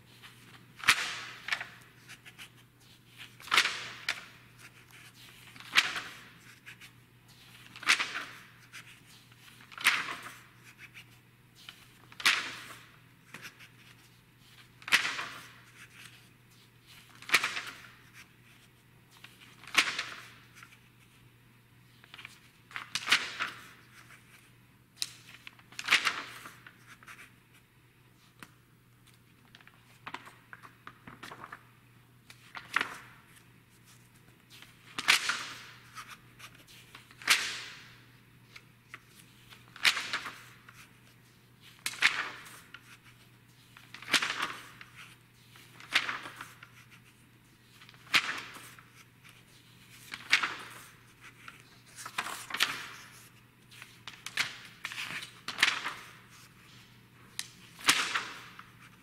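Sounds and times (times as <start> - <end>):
magazine pages turning: 0.1 - 21.2, 22.0 - 27.3, 28.2 - 31.6, 32.3 - 37.8, 38.5 - 59.0.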